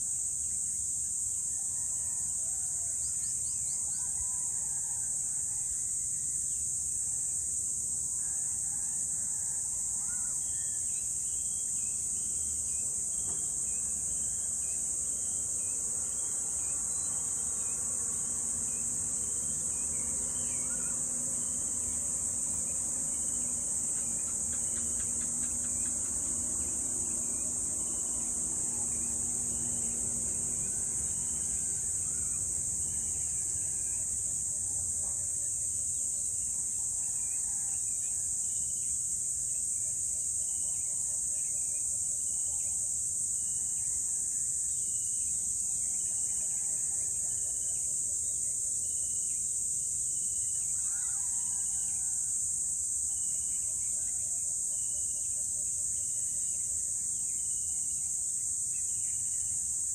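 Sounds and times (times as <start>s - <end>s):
insect chorus droning: 0.0s - 59.9s.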